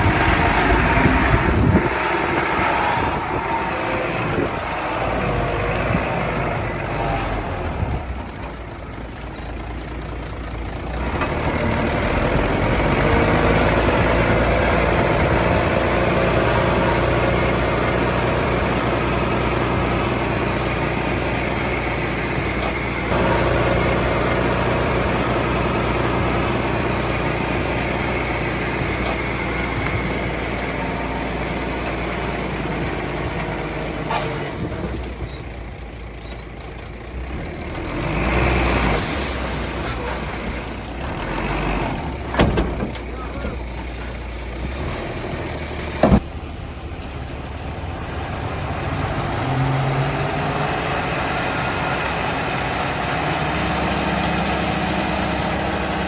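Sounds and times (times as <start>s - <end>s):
diesel machinery engine revving: 0.0s - 56.0s.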